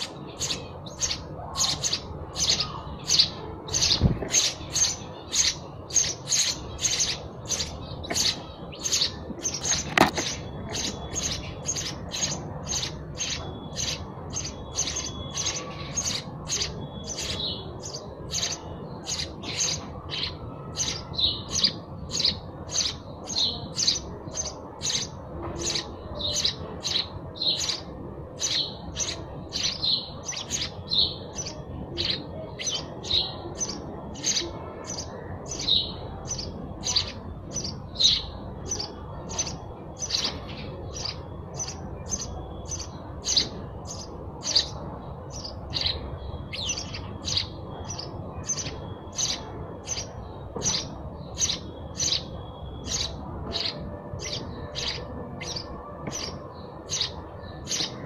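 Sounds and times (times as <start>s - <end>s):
sparrow chirping: 0.0s - 58.0s.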